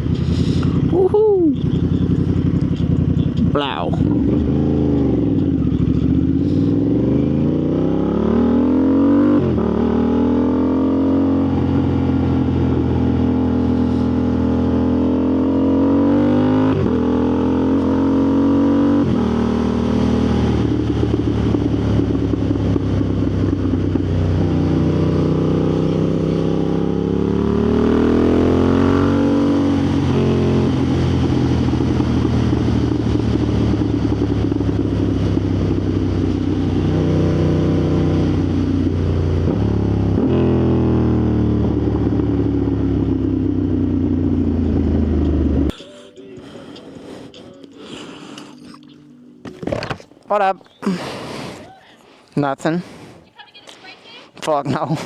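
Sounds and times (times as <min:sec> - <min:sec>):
motorcycle engine revving: 0:00.0 - 0:45.8.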